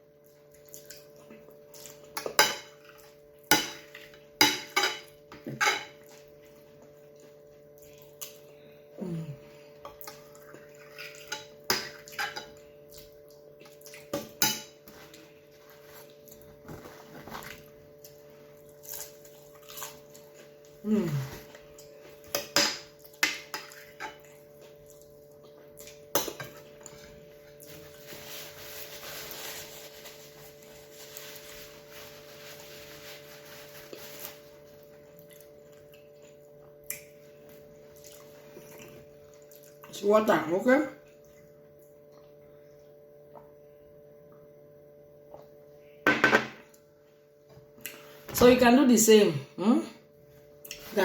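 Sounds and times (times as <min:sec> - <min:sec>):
electrical hum: 0:00.0 - 0:51.0.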